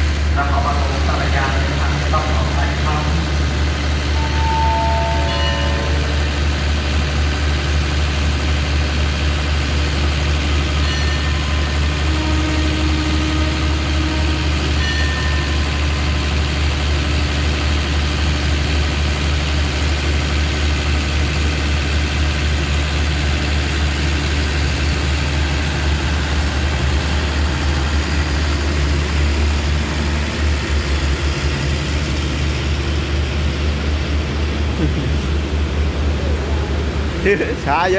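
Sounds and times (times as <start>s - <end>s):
train diesel engine idling: 0.0s - 37.9s.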